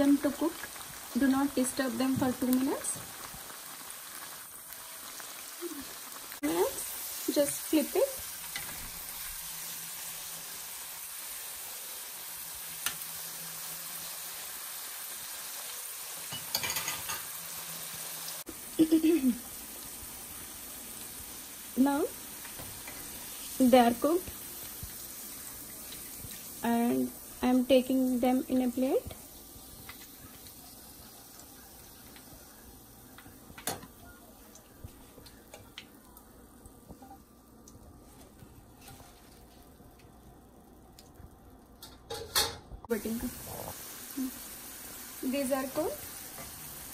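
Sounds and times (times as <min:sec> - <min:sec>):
food deep-frying in hot oil: 0:00.0 - 0:46.9.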